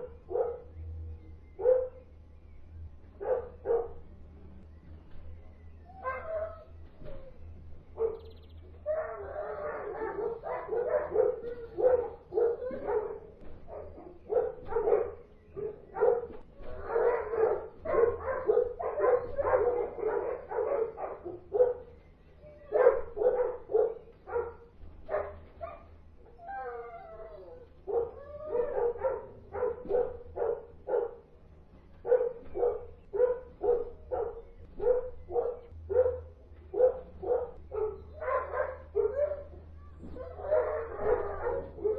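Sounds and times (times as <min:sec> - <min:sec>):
dogs barking: 0:00.0 - 0:02.3, 0:03.1 - 0:04.3, 0:05.8 - 0:41.9
dogs howling: 0:05.8 - 0:31.4, 0:32.0 - 0:41.9.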